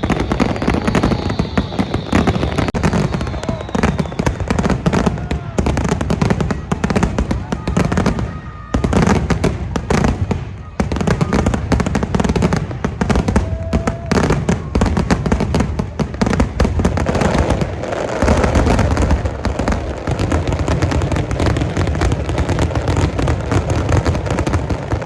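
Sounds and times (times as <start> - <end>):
deep fireworks booms: 0.0 - 25.0
fireworks bangs and crackles: 0.0 - 25.0.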